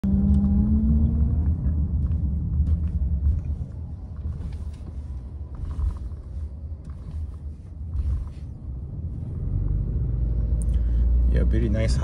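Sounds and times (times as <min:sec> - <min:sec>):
car road rumble: 0:00.0 - 0:12.0
pitched engine hum: 0:00.0 - 0:12.0.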